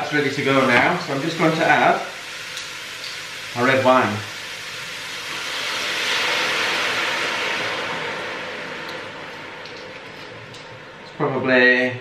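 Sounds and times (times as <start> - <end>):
wine sizzling in hot pan: 0.0 - 11.7.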